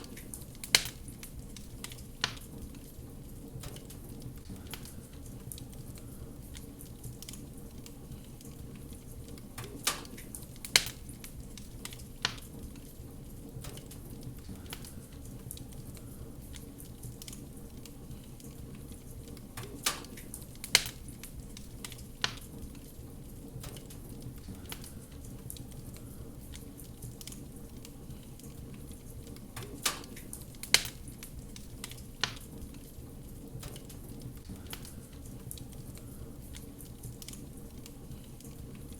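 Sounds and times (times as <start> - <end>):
fireplace fire crackling: 0.0 - 38.9
sharp pops of fire: 0.0 - 38.9.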